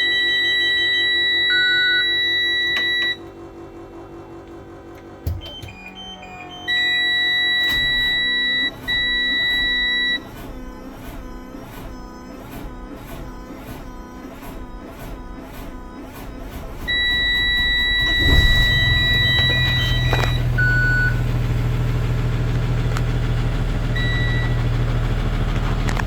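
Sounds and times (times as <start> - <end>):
diesel engine starter cranking: 2.8 - 26.0.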